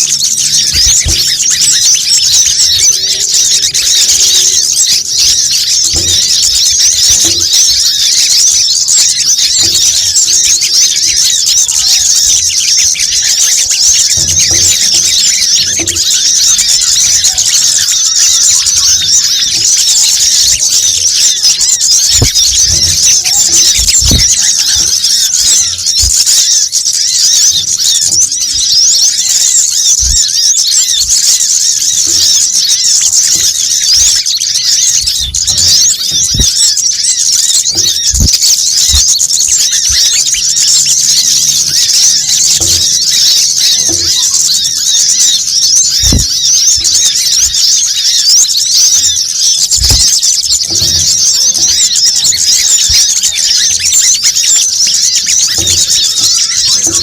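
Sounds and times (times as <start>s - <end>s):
small birds chattering: 0.0s - 57.0s.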